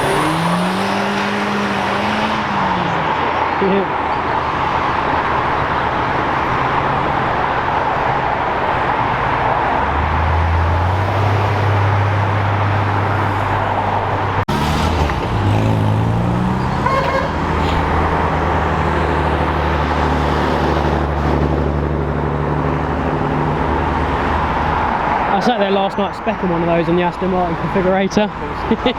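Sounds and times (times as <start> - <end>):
car engine revving: 0.0 - 28.9
car engines running: 0.0 - 28.9.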